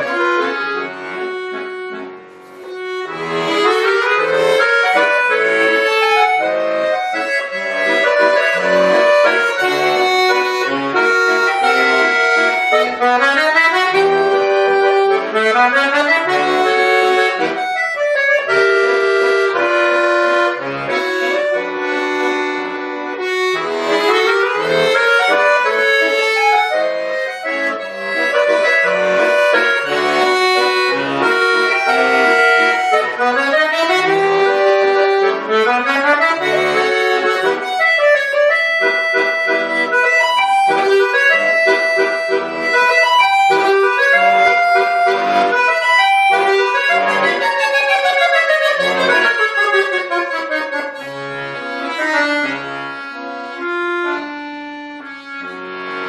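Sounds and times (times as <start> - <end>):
button accordion playing lively piece: 0.0 - 56.0.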